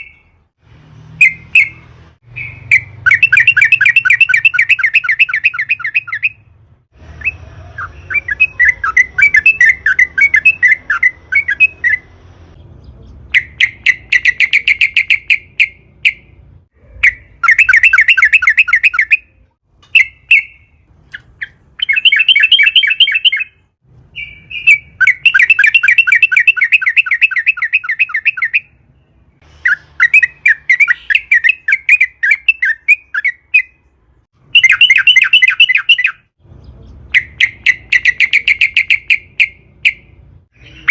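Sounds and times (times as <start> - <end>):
bulbul chattering song: 0.0 - 40.9.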